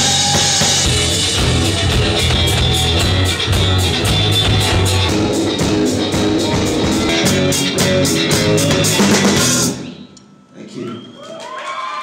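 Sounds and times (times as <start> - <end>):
bass: 0.0 - 10.2
distorted electric guitars: 0.0 - 10.2
drums: 0.0 - 10.2.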